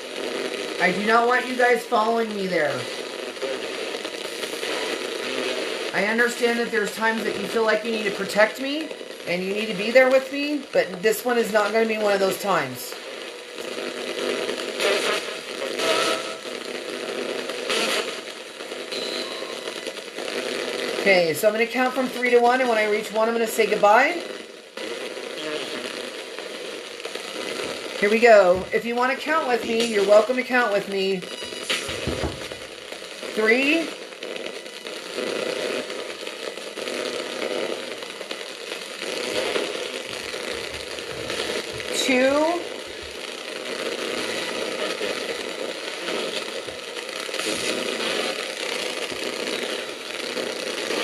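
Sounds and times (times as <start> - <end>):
choppy radio static: 0.0 - 51.0
radio broadcast fragments: 0.0 - 51.0.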